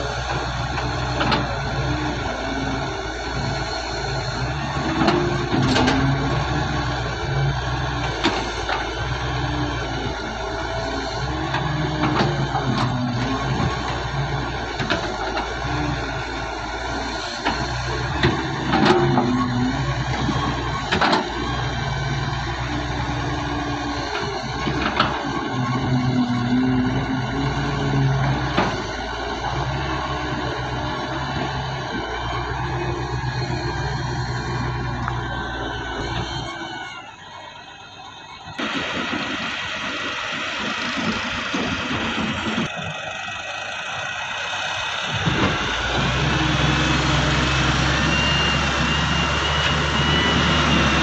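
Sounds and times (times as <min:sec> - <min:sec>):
excavator diesel engine: 0:00.0 - 0:51.0.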